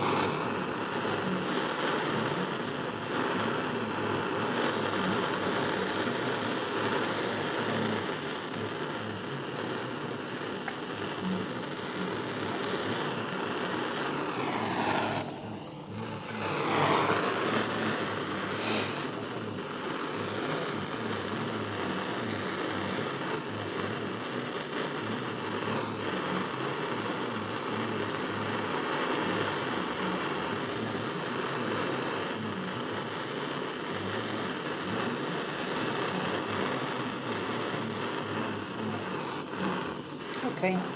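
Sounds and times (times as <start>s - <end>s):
gas torch flame hissing: 0.0s - 40.9s.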